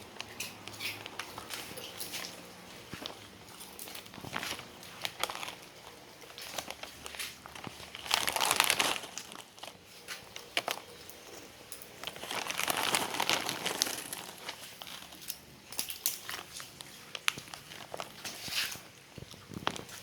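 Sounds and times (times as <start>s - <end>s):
plastic wrapper crinkling: 0.0s - 20.0s.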